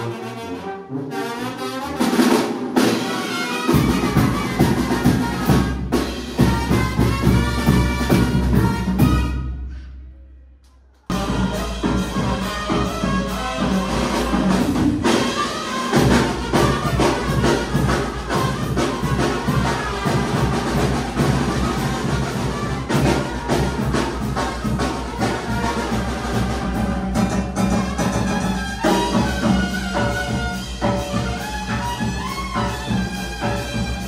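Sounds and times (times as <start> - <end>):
brass band playing: 0.0 - 9.9, 11.1 - 34.0
drums and cymbal beat: 2.0 - 9.7, 11.1 - 34.0.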